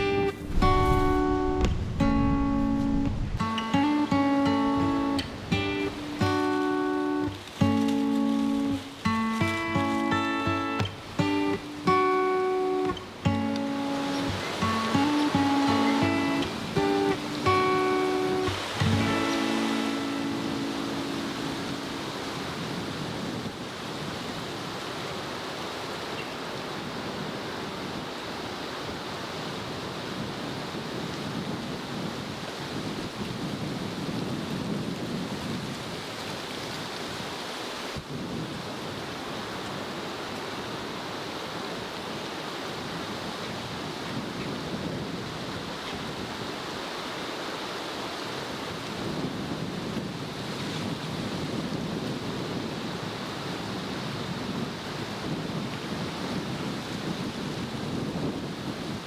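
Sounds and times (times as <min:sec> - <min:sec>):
wind blowing on microphone: 0:00.0 - 0:59.0.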